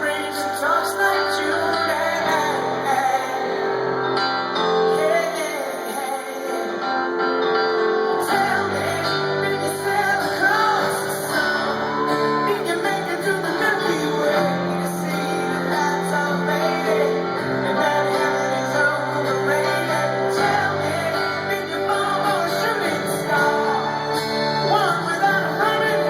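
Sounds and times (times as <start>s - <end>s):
live rock band: 0.0s - 26.0s
person singing: 0.0s - 26.0s
strummed guitar: 0.0s - 26.0s.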